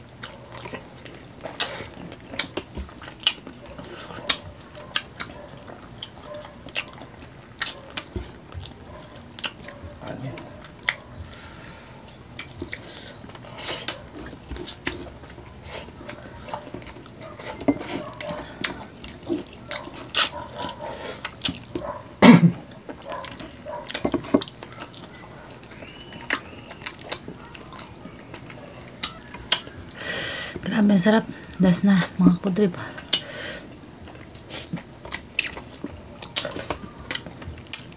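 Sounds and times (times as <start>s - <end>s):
mouth clicks and smacks chewing: 0.1s - 10.0s, 12.2s - 22.1s, 22.7s - 30.0s, 33.0s - 37.9s.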